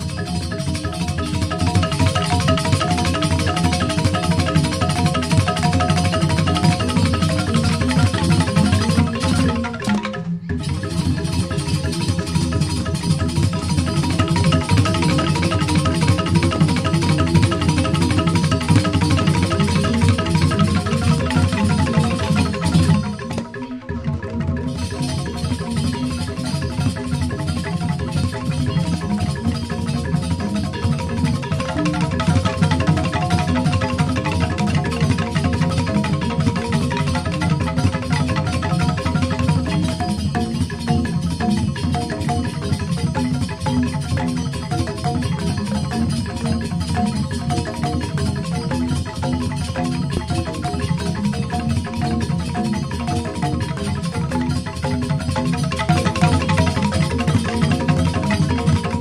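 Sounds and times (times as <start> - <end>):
bamboo xylophone strokes: 0.0 - 59.0
percussion: 0.0 - 59.0.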